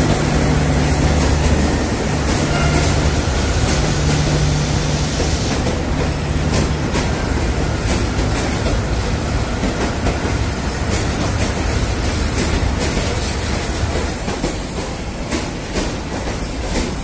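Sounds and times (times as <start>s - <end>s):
train coaches rumbling past: 0.0s - 17.0s.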